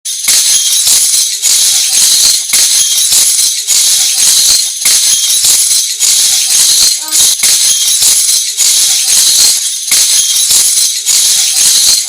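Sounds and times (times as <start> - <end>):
metal jingles rattling: 0.1 - 12.0.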